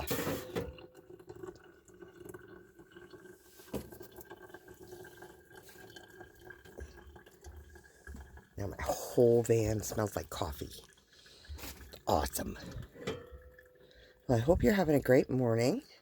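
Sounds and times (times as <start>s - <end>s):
water trickling and dripping: 0.0s - 15.9s.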